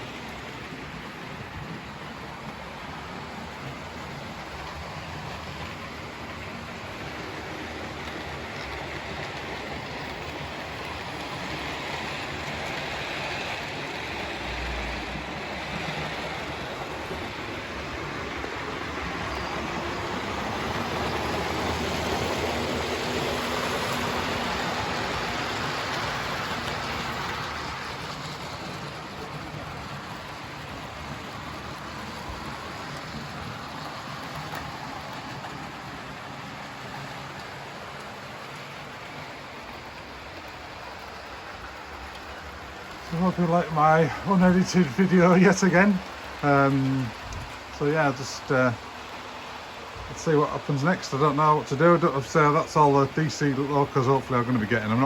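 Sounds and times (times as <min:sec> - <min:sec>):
model train wheels rumbling on rails: 0:00.0 - 0:55.0.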